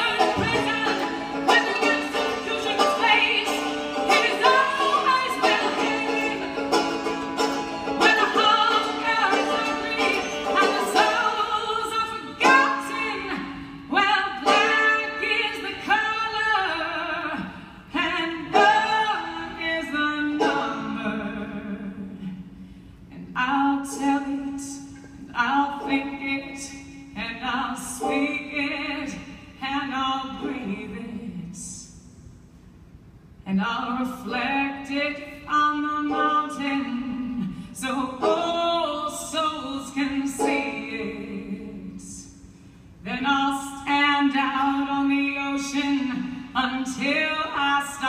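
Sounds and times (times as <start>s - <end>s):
banjo picking: 0.0s - 22.4s, 23.2s - 31.6s, 34.0s - 42.5s, 43.1s - 48.0s.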